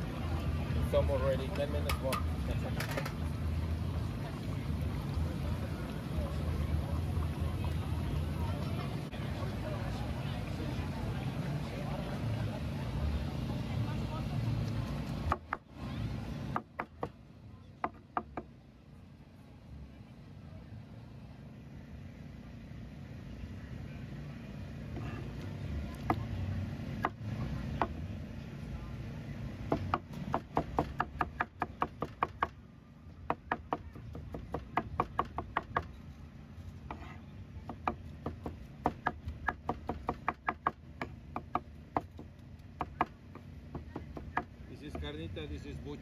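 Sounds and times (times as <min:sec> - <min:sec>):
low steady rumble: 0:00.0 - 0:46.0.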